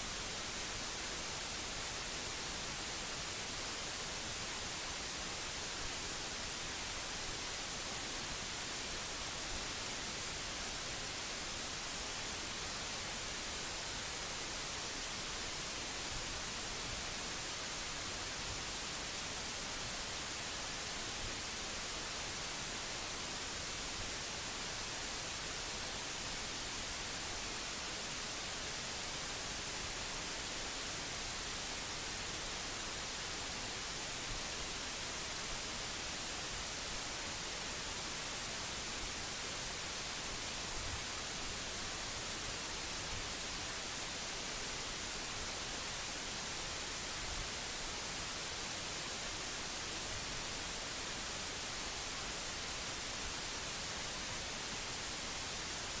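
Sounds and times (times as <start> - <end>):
microphone hiss: 0.0 - 56.0.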